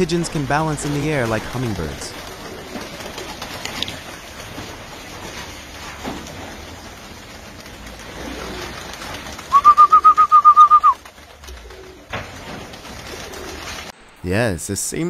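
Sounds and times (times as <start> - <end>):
pigeons in flight: 0.0 - 13.9.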